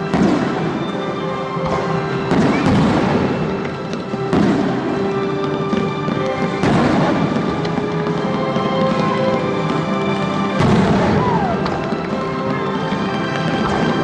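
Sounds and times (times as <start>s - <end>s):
fireworks pops and crackles: 0.0s - 14.0s
fireworks shells bursting: 0.0s - 14.0s
music: 0.0s - 14.0s.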